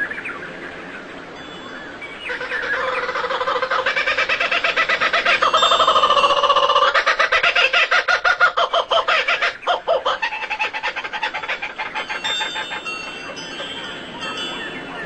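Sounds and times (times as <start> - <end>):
bird calling repeated notes: 1.9 - 15.0.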